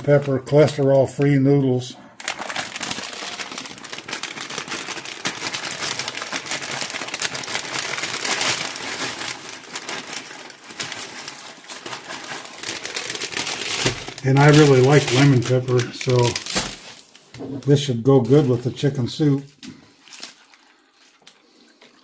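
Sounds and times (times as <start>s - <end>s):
plastic bag crinkling: 2.1s - 22.0s.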